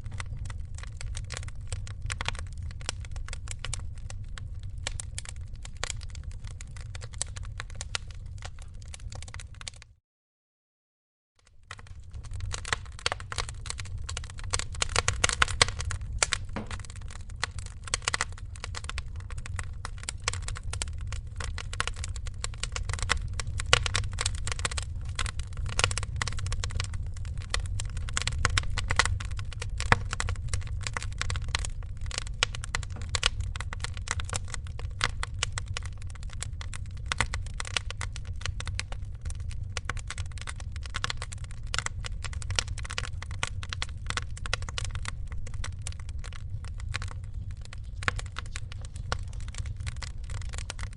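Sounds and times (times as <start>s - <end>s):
wood fire crackling and popping: 0.0s - 9.9s, 11.4s - 50.9s.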